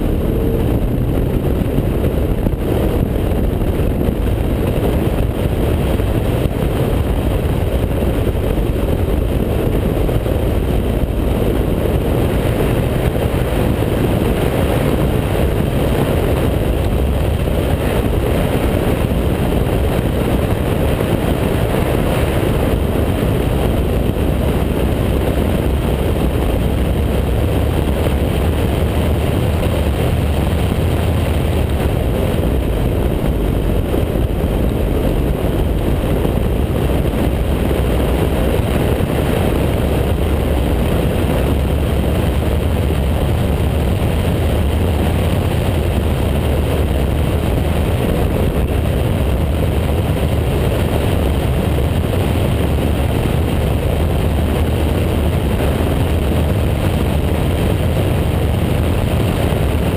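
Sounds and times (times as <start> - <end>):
race car engine running hard: 0.0 - 59.9
wind and road noise: 0.0 - 59.9.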